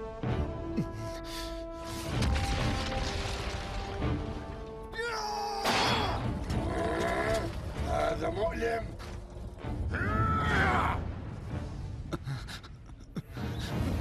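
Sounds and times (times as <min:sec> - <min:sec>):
dramatic background music: 0:00.0 - 0:14.0.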